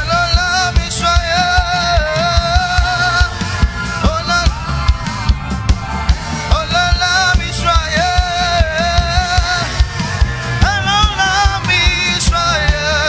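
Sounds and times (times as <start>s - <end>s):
drum and bass beat: 0.0s - 13.0s
man singing into a microphone: 0.0s - 13.0s.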